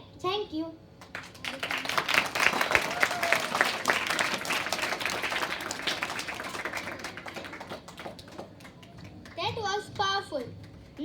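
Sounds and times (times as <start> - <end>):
audience clapping: 1.0 - 11.0.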